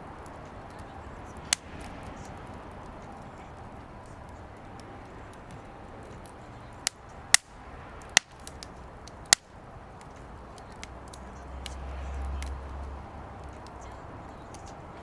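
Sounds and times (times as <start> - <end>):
firewood crackling: 0.0 - 15.0
sharp pops of burning wood: 0.0 - 15.0.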